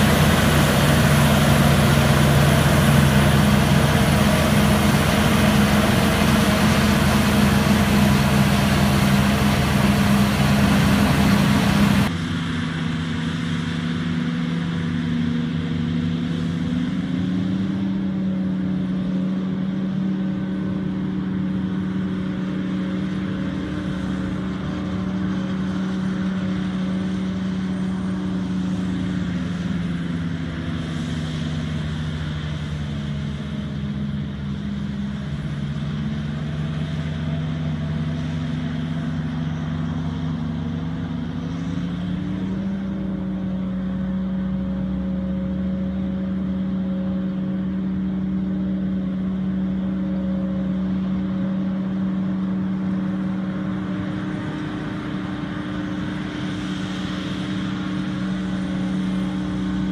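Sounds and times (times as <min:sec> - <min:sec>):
forage harvester engine drone: 0:00.0 - 0:59.9
tractor engine: 0:00.0 - 0:59.9.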